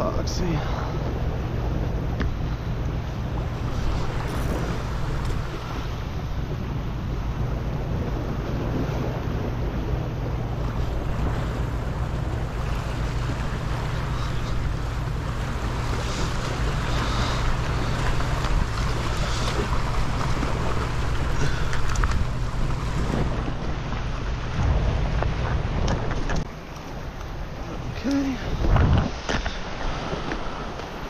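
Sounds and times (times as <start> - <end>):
wind rumble on microphone: 0.0 - 31.0
waves washing against rocks: 2.2 - 31.0.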